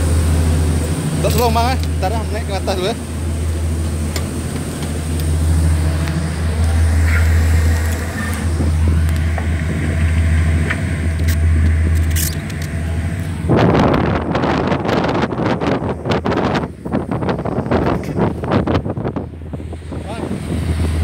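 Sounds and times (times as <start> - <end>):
ship engines droning: 0.0 - 21.0.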